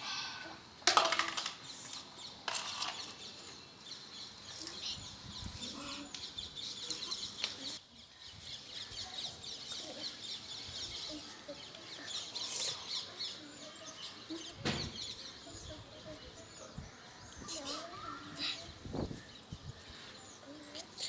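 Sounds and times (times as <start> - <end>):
small birds chirping: 1.5 - 21.0.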